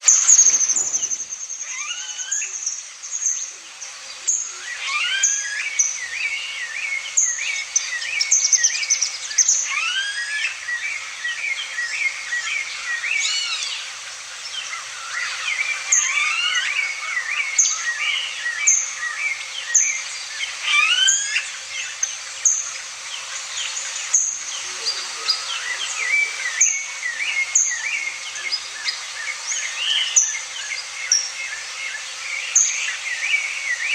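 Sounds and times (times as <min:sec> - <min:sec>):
birds calling and singing: 0:00.0 - 0:33.9.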